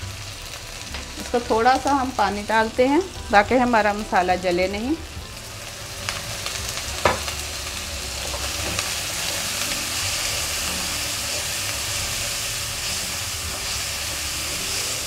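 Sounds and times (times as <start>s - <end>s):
chicken sizzling in a wok: 0.0s - 15.0s.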